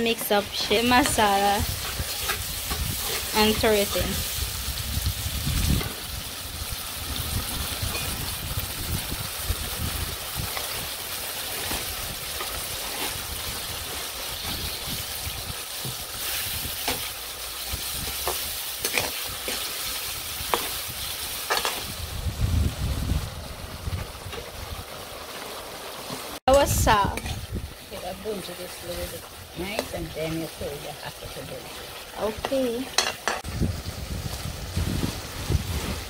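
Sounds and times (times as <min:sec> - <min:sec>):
spatula scraping a wok: 0:00.0 - 0:06.2, 0:07.1 - 0:09.1, 0:09.7 - 0:22.0, 0:25.3 - 0:33.4, 0:34.2 - 0:36.0
onions sizzling in hot oil: 0:00.0 - 0:36.0.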